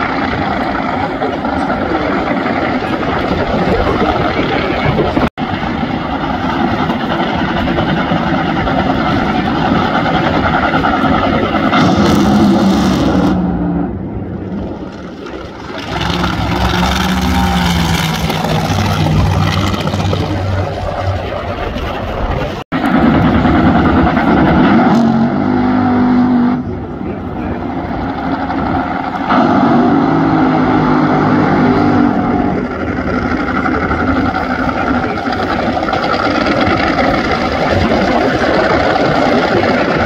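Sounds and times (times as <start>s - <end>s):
loud drag racing engines: 0.0s - 40.0s.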